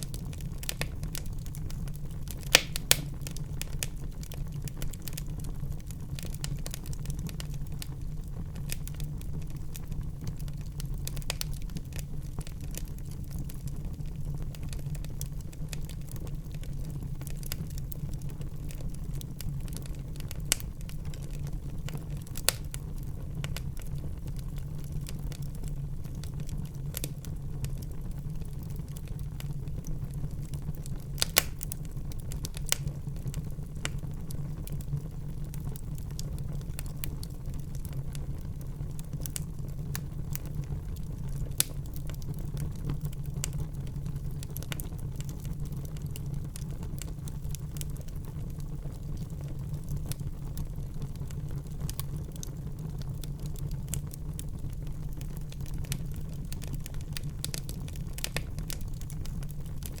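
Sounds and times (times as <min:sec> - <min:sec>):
fire crackling and popping: 0:00.0 - 1:00.0
flames rumbling: 0:00.0 - 1:00.0.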